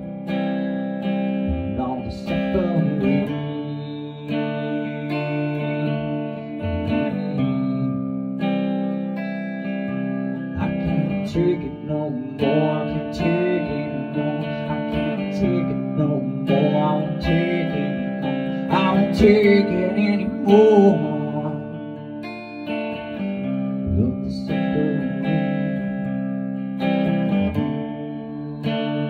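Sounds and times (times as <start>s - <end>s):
strummed guitar: 0.0s - 29.0s
man singing: 1.0s - 22.0s, 23.1s - 26.3s.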